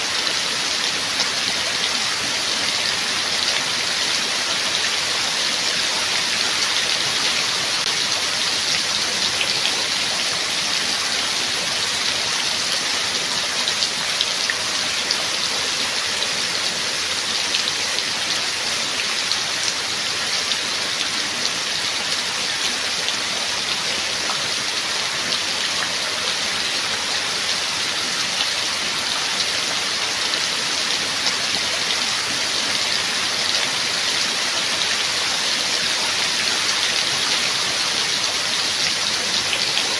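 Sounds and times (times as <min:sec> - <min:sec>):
heavy rain falling: 0:00.0 - 0:39.9
raindrops ticking on a surface: 0:00.1 - 0:39.9.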